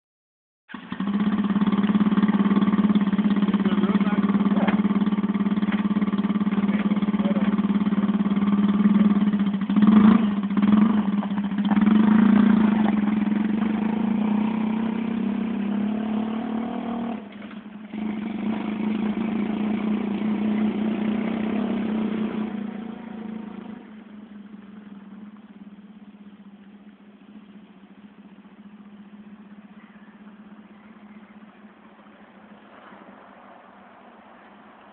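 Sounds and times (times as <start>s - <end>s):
small engine droning and revving: 0.7s - 34.9s.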